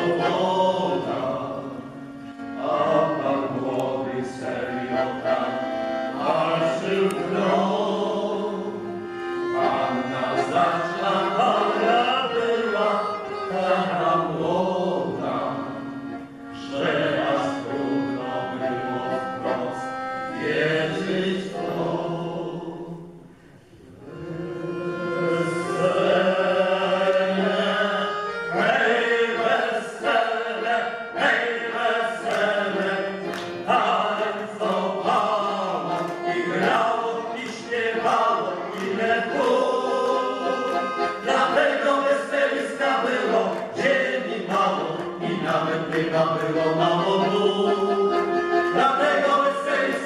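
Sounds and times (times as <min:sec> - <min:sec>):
music with singing voices: 0:00.0 - 0:50.0.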